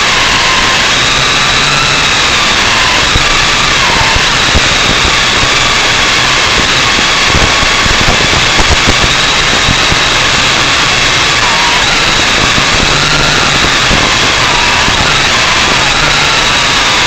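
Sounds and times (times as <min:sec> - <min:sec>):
drone propellers whining: 0:00.0 - 0:17.0
loud rushing noise: 0:00.0 - 0:17.0.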